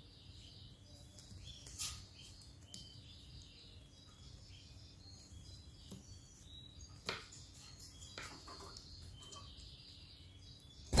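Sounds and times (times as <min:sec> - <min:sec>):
canaries chirping: 0:00.0 - 0:11.0.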